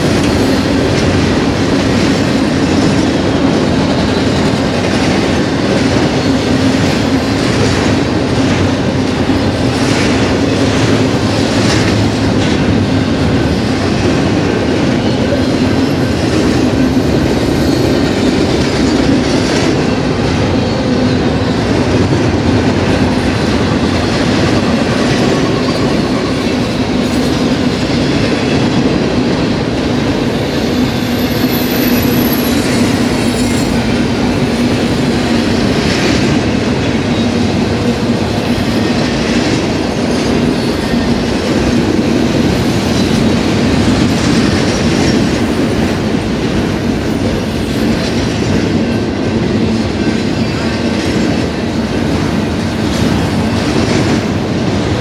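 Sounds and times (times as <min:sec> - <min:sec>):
clickety-clack of wheels: 0:00.0 - 0:55.0
train wheels rumbling on rails: 0:00.0 - 0:55.0.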